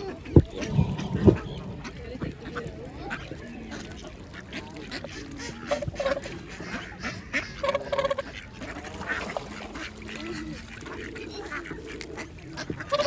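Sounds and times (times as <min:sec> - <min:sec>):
waterfowl honking: 0:00.0 - 0:13.0.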